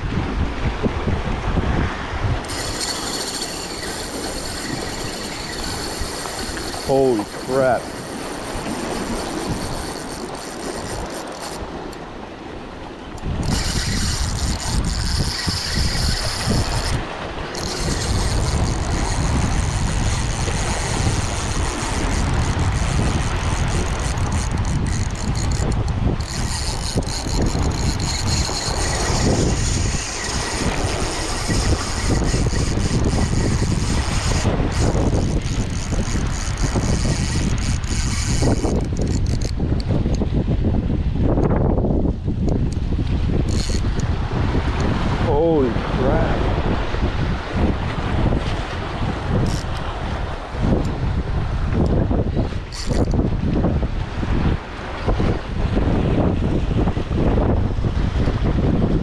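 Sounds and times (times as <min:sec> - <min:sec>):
waves washing against rocks: 0:00.0 - 0:59.0
wind buffeting microphone: 0:00.0 - 0:59.0.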